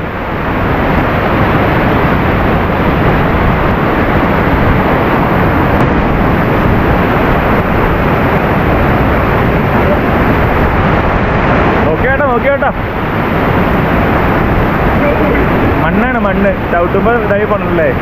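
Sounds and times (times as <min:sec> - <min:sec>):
rush of falling water: 0:00.0 - 0:18.0.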